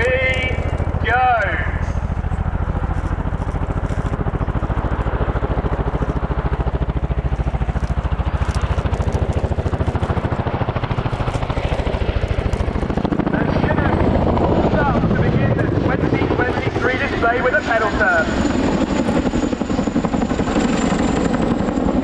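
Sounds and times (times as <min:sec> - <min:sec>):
helicopter rotor blades beating: 0:00.0 - 0:22.0
turbine engines: 0:00.0 - 0:22.0.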